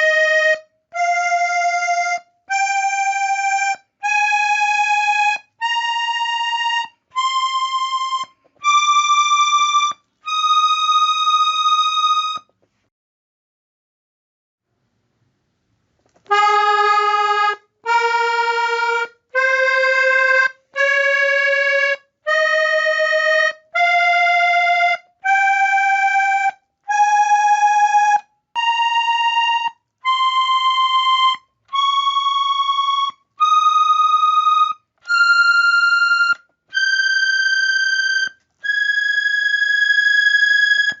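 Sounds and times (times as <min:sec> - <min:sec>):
accordion playing a scale: 0:00.0 - 0:12.5, 0:16.3 - 0:41.0.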